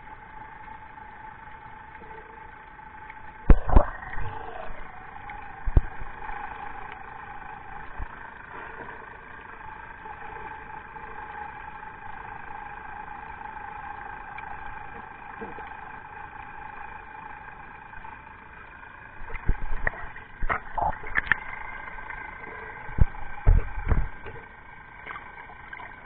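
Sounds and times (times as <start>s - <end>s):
boat engine drone underwater: 0.0s - 26.0s.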